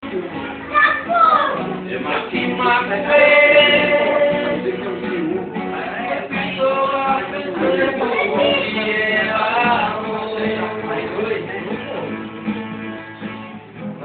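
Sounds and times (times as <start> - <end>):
strummed acoustic guitar: 0.0 - 14.0
voices singing held notes: 0.1 - 14.0.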